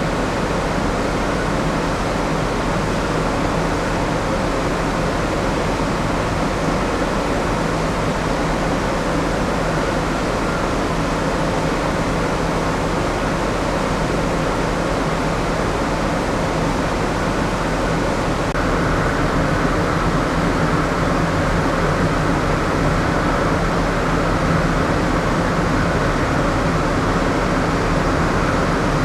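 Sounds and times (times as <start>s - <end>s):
low machinery hum: 0.0s - 29.0s
ventilation air rushing: 0.0s - 29.0s.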